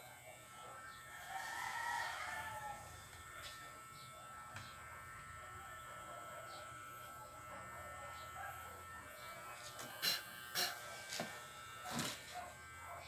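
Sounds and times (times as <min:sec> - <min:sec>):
electric hair clippers buzzing: 0:00.0 - 0:13.0.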